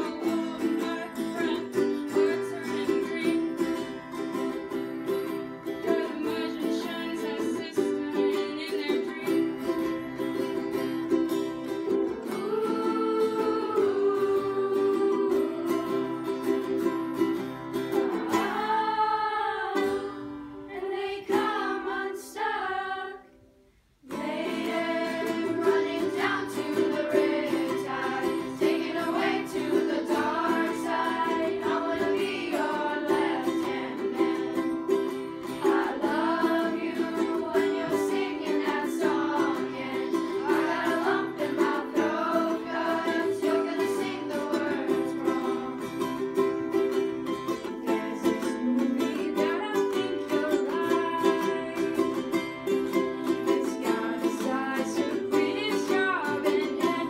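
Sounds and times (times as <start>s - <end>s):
children singing: 0.0s - 23.3s, 24.1s - 57.0s
acoustic guitar: 0.0s - 57.0s
strummed ukulele: 0.0s - 57.0s.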